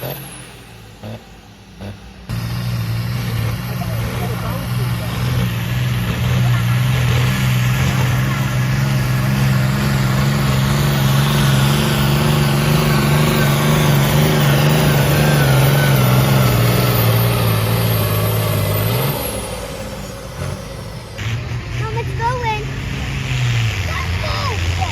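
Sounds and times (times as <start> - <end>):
tractor engine at high revs: 0.0 - 24.9.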